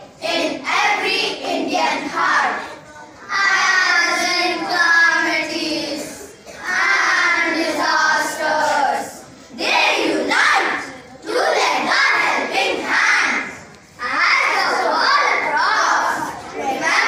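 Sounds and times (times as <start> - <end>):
children speaking in chorus: 0.0 - 17.0.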